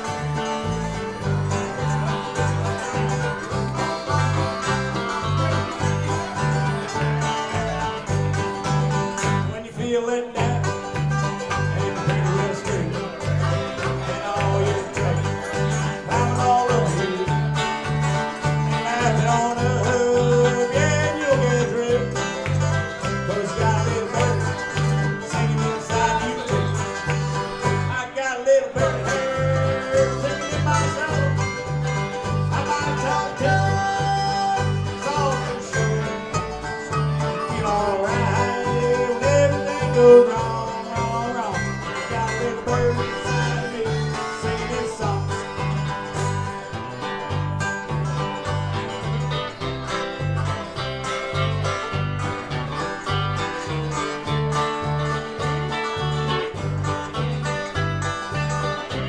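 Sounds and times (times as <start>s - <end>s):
bluegrass band playing: 0.0s - 59.0s
harmonica bending lead lines: 0.0s - 59.0s.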